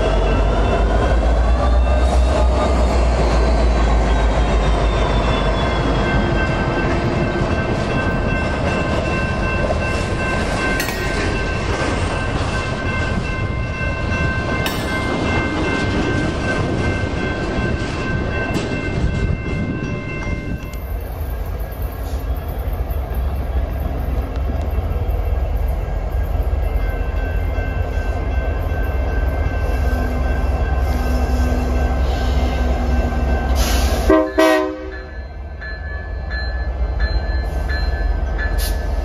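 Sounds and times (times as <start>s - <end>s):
diesel locomotive rumble: 0.0s - 39.0s
train cars rolling: 0.0s - 39.0s
high ringing tones: 3.8s - 39.0s.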